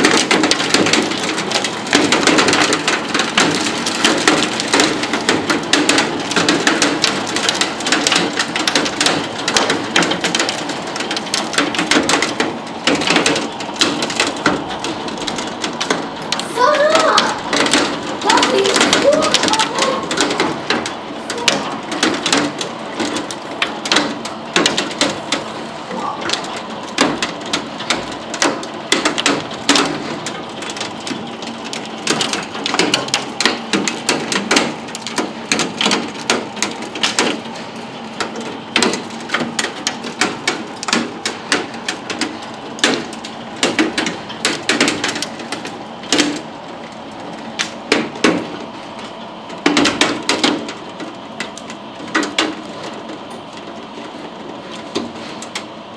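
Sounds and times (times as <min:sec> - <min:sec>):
hail striking a window: 0:00.0 - 0:55.9.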